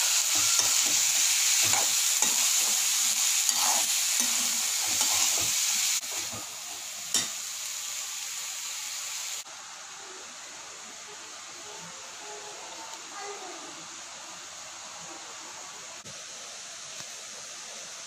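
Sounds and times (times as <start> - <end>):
chickpeas sizzling in a pan: 0.0 - 18.0.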